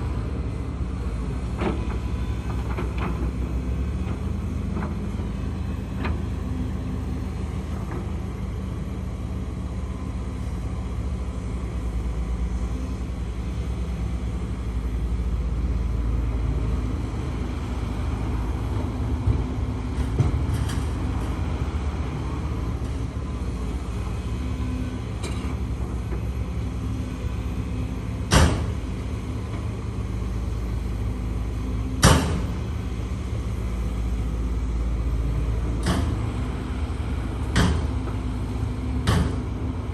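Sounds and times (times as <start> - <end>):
excavator diesel engine rumbling: 0.0 - 39.9.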